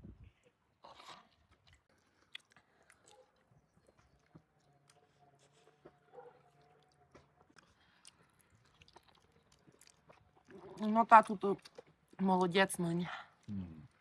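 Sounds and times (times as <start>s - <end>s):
people chewing: 0.3s - 12.2s, 13.0s - 14.0s.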